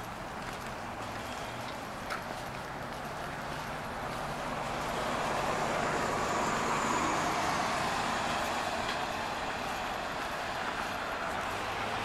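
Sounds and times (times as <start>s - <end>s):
bus passing: 0.0s - 12.0s.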